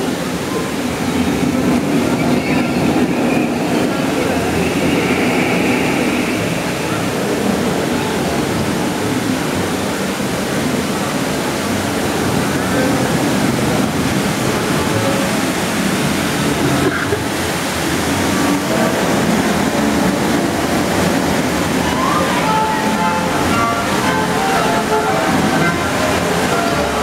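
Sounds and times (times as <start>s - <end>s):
rushing water in channel: 0.0s - 27.0s.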